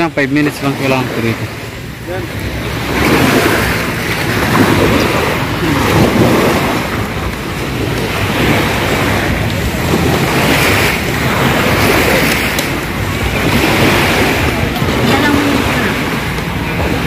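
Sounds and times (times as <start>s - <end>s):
small waves washing on shore: 0.0s - 17.0s
wind on microphone: 1.3s - 17.0s.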